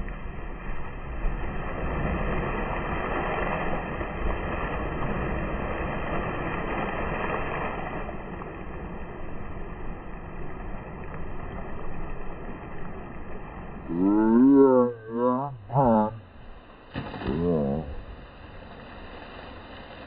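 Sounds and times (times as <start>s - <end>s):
water splashing in pool: 0.0s - 20.0s.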